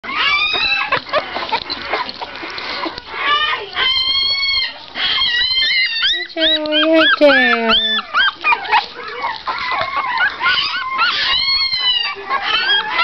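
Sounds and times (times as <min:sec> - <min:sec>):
puppy squealing: 0:00.0 - 0:13.0.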